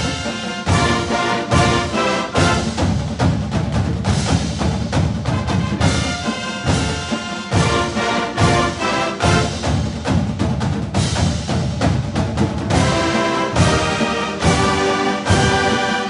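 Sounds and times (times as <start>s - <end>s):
orchestral music with brass: 0.0s - 16.0s
pounding timpani: 0.0s - 16.0s.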